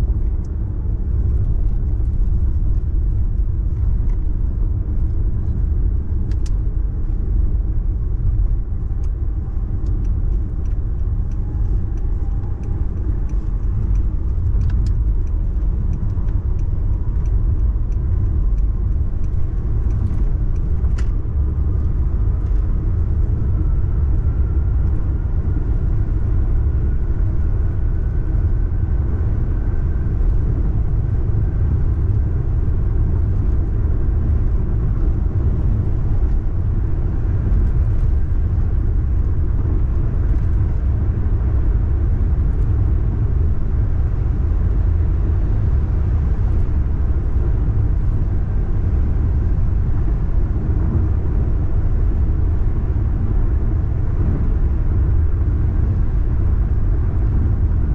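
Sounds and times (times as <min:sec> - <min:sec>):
car road rumble: 0:00.0 - 0:57.9.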